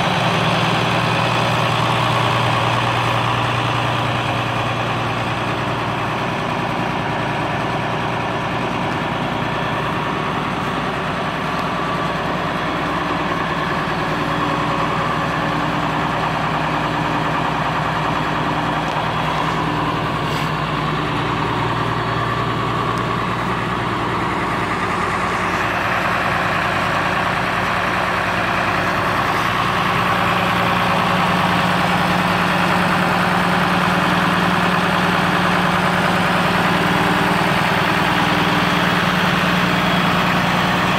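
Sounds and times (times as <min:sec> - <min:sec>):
diesel tractor idling: 0:00.0 - 0:40.9.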